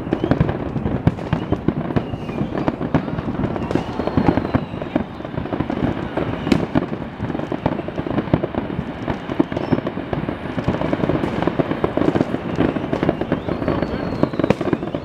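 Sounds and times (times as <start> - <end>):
sharp firework bang: 0.0 - 10.0, 10.6 - 15.0
fireworks crackling: 0.0 - 15.0.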